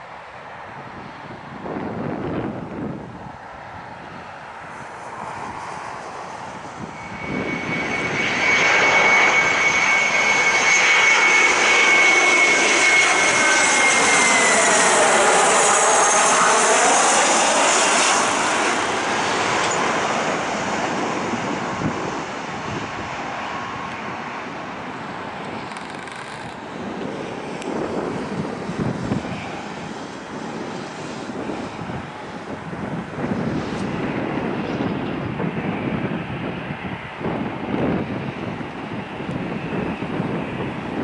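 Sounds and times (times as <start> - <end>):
jet engines whining passing by: 0.0 - 41.0.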